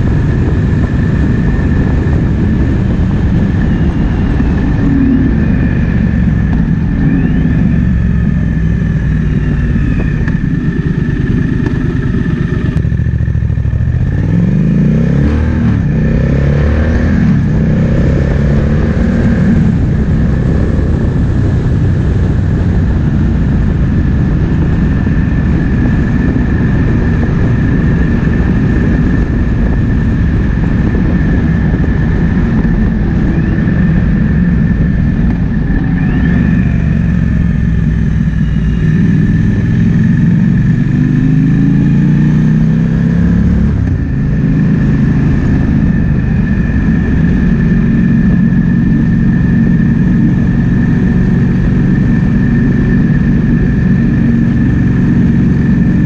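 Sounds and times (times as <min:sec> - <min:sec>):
motorcycle engine revving: 0:00.0 - 0:56.0
wind noise on microphone: 0:00.0 - 0:56.0.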